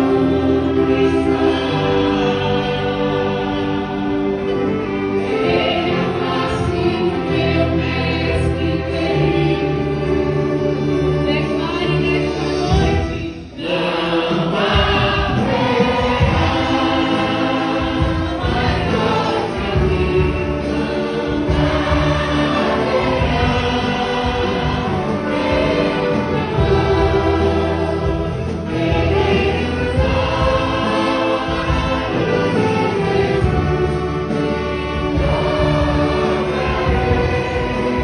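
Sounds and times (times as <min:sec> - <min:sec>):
choir singing a hymn: 0:00.0 - 0:38.0
violins playing: 0:00.0 - 0:38.0.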